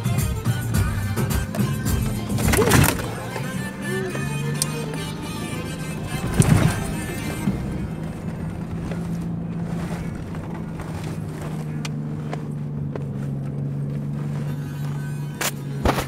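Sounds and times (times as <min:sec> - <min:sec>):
engine droning inside car cabin: 0:00.0 - 0:16.0.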